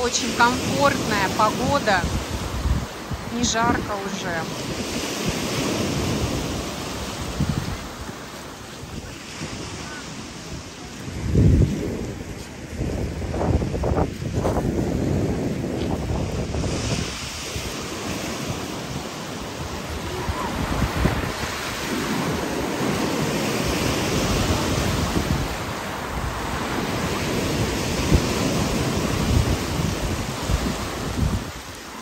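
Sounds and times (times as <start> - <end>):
surf breaking on pebble beach: 0.2 - 32.0
wind buffeting microphone: 0.7 - 31.9.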